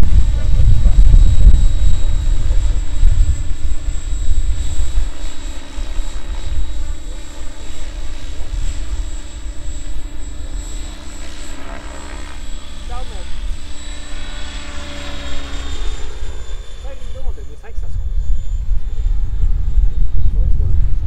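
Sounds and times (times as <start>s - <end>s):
heavy low rumble: 0.0s - 21.0s
rc helicopter rotor whining: 0.0s - 21.0s.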